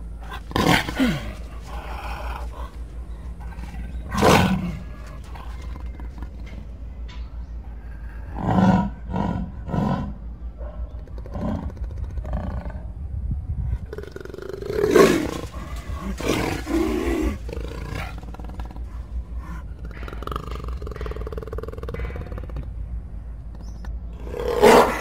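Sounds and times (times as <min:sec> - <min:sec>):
jaguar roaring grunts: 0:00.0 - 0:06.7, 0:07.8 - 0:10.3, 0:11.1 - 0:13.1, 0:13.8 - 0:22.8, 0:23.6 - 0:25.0.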